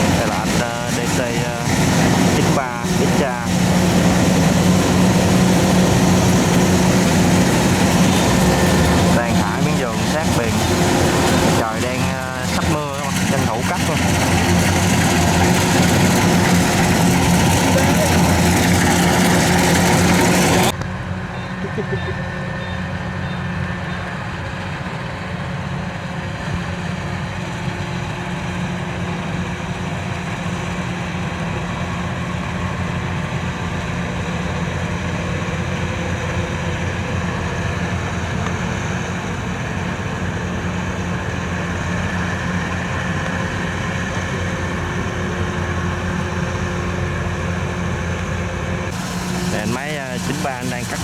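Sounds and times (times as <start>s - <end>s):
combine harvester engine drone: 0.0s - 51.0s.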